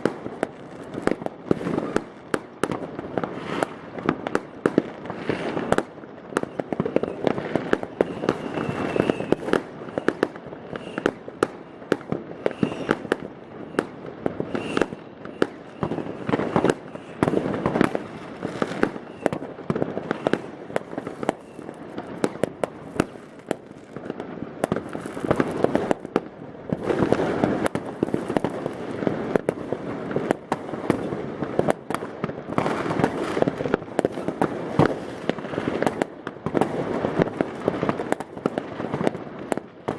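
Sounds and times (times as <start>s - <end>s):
firecracker crackling volleys: 0.0s - 39.9s
fireworks bangs and pops: 0.0s - 39.9s.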